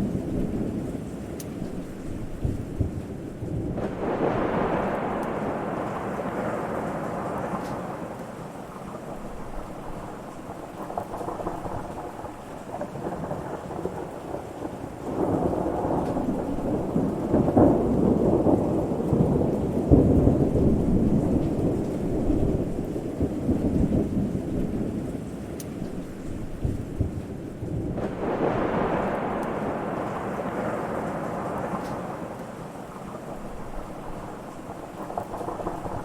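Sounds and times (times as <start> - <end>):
steady rain: 0.0 - 36.0
thunder rumbling: 0.0 - 36.0.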